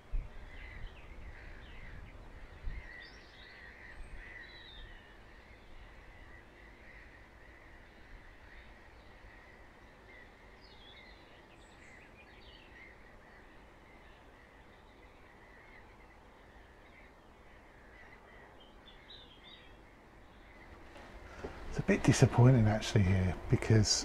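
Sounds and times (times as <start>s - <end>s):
faint bird calls: 0.0s - 24.0s.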